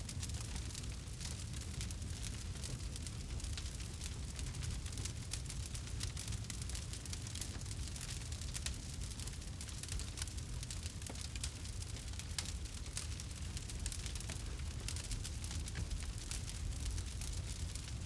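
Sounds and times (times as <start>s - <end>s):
campfire crackling: 0.1s - 18.0s.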